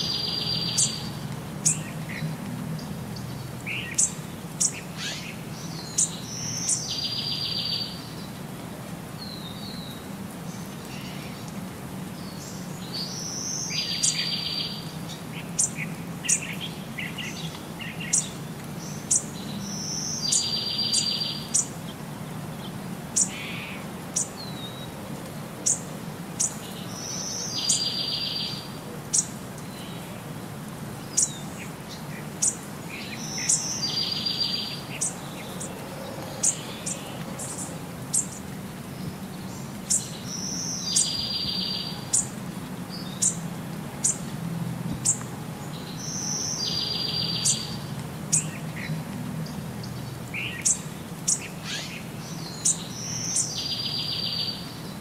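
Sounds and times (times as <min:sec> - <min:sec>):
birds chirping: 0:00.0 - 0:08.4, 0:09.2 - 0:25.0, 0:25.6 - 0:44.3, 0:44.9 - 0:55.0.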